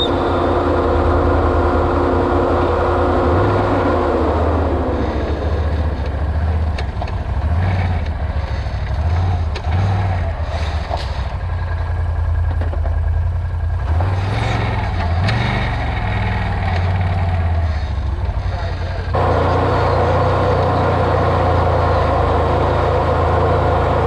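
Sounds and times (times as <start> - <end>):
vehicle engine revving off-road: 0.0 - 24.0.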